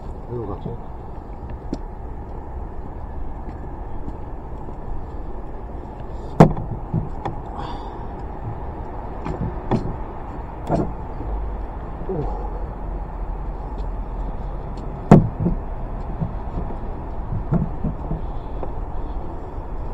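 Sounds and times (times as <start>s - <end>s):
scooter engine rumble: 0.0s - 19.9s.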